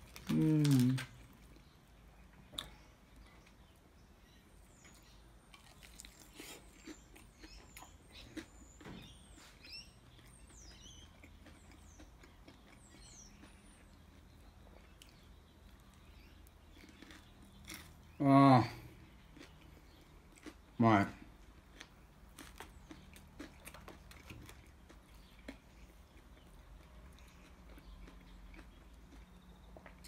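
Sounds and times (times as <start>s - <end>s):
small birds chirping: 0.0s - 30.0s
soft chewing: 0.0s - 30.0s.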